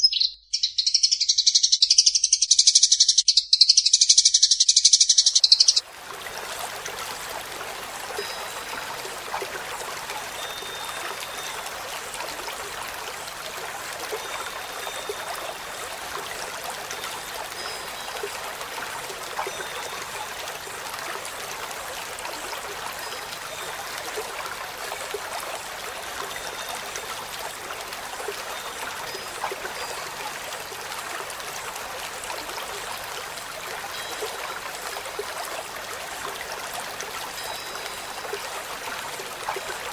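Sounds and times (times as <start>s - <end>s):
running water: 5.2s - 39.9s.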